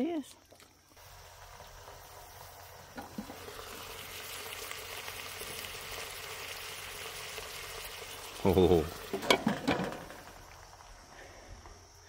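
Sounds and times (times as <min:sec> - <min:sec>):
sausage and onions sizzling: 0:00.0 - 0:12.0.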